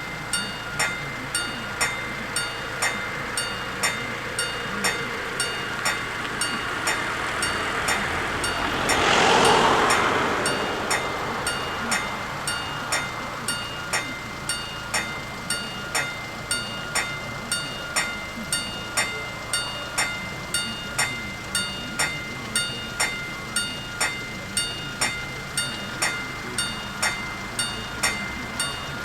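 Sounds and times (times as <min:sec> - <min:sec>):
level crossing warning bells: 0:00.0 - 0:29.0.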